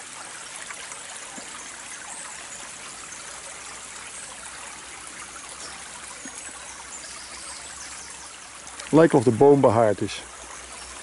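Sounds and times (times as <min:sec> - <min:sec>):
stream flowing over stones: 0:00.0 - 0:11.0.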